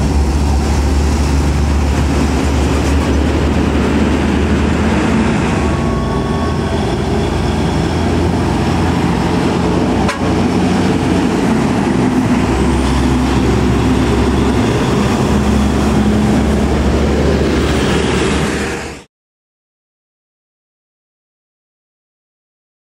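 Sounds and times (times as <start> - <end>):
truck diesel engine passing: 0.0 - 19.1.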